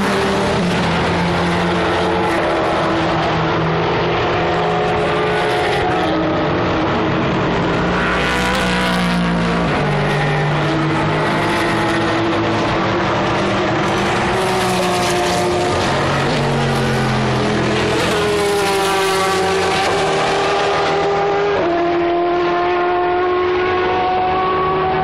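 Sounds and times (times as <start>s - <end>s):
race car engines running hard: 0.0s - 25.0s.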